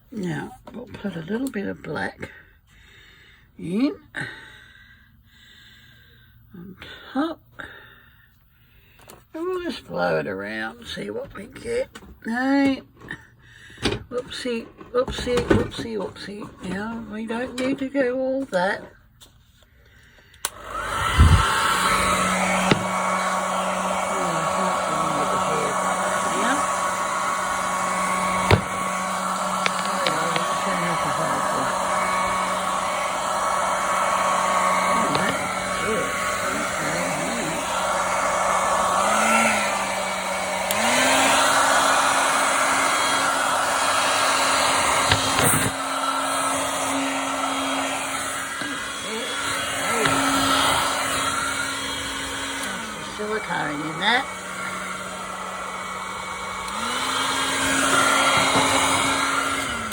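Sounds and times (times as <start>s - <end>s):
hair dryer running: 0.0s - 2.4s, 8.8s - 18.9s, 20.1s - 59.9s.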